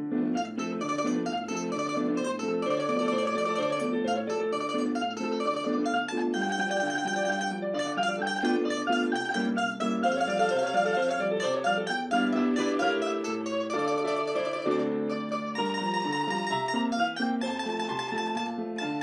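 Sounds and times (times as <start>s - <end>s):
plucked string duet melody: 0.0s - 19.0s.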